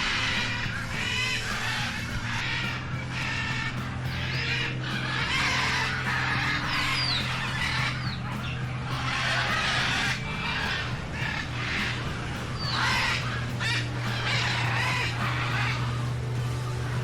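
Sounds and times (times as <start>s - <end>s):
birds squawking: 0.0s - 17.0s
steady low hum: 0.0s - 17.0s.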